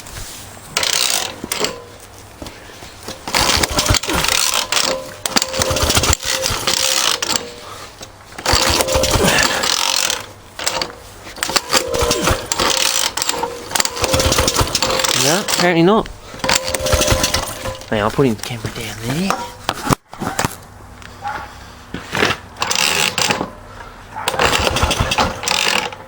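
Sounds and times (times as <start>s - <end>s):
motorcycle engine clattering and ratcheting: 0.8s - 26.0s.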